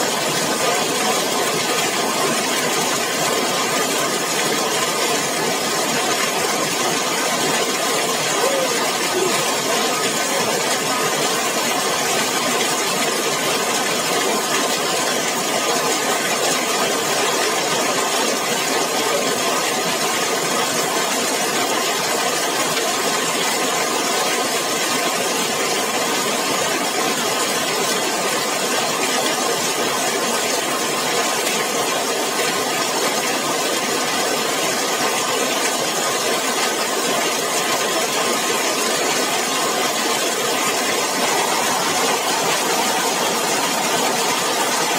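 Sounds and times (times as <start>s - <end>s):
heavy rain on metal roof: 0.0s - 44.9s.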